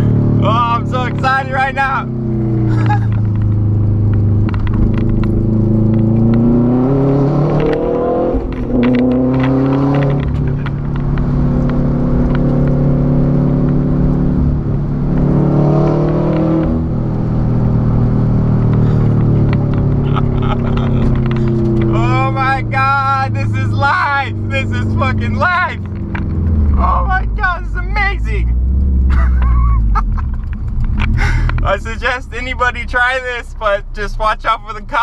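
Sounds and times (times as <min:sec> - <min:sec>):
exhaust crackles: 0:00.0 - 0:35.0
loud car engine revving: 0:00.0 - 0:35.0.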